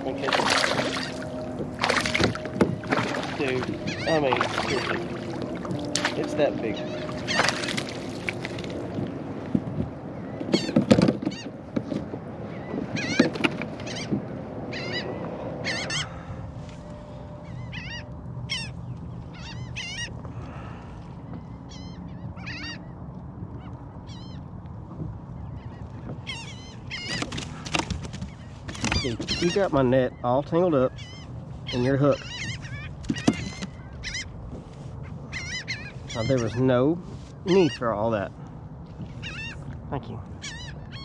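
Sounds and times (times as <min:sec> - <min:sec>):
seabirds crying: 0:00.0 - 0:41.0.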